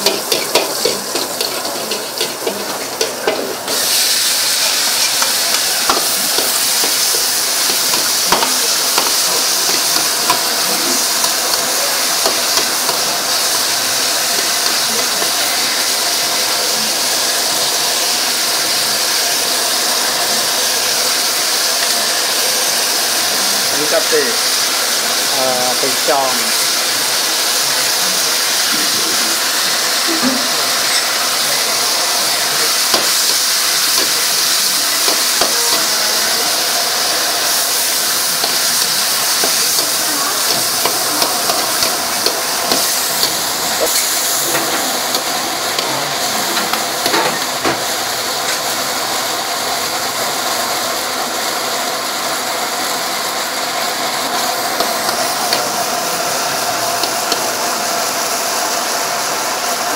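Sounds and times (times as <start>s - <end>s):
food sizzling in a wok: 0.0s - 59.9s.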